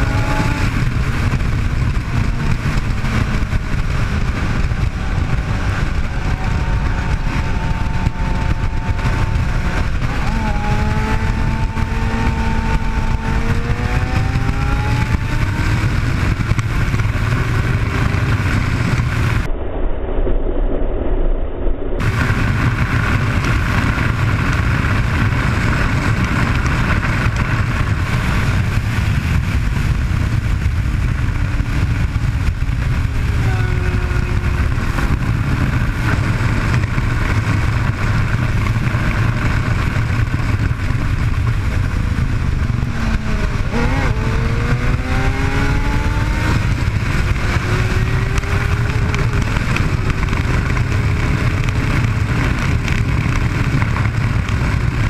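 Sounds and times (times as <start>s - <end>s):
motorcycle engine running: 0.0s - 19.5s, 22.0s - 55.0s
wind rush on microphone: 0.0s - 55.0s.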